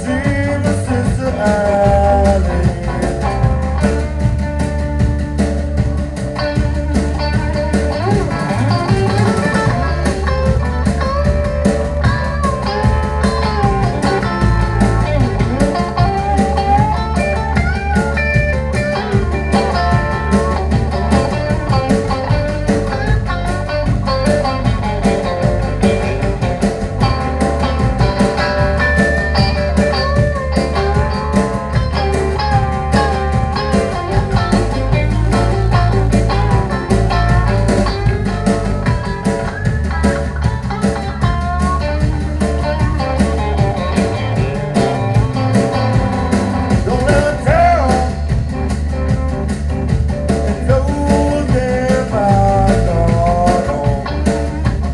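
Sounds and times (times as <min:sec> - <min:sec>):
drum kit steady beat: 0:00.0 - 0:54.9
electric bass: 0:00.0 - 0:54.9
electric guitar lead: 0:00.0 - 0:54.9.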